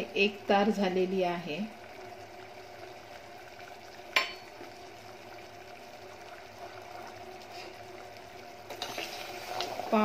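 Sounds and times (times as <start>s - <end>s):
syrup boiling in a pot: 0.0s - 10.0s.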